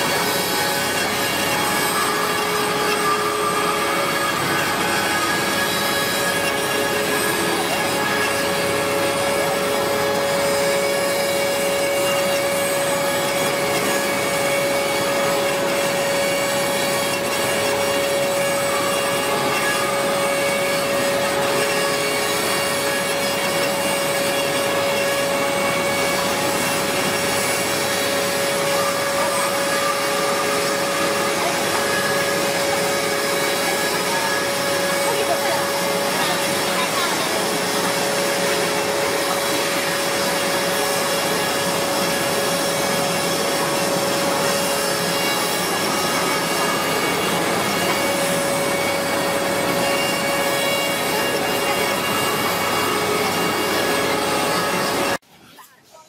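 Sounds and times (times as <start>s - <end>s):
cnc spindle grinding stone: 0.0s - 55.2s.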